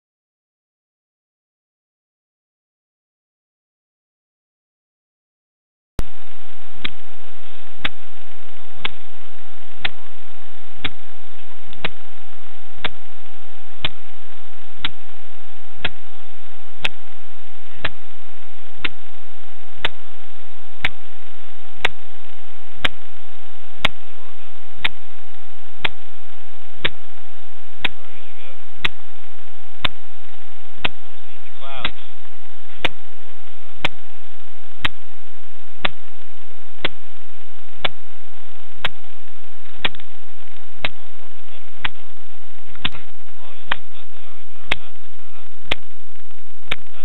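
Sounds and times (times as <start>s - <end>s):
faint tone and hum: 6.0s - 47.0s
steady loud hiss: 6.0s - 47.0s.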